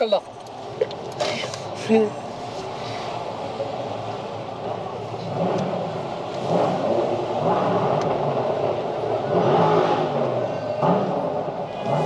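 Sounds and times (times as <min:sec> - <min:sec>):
car engine accelerating: 0:00.8 - 0:12.0.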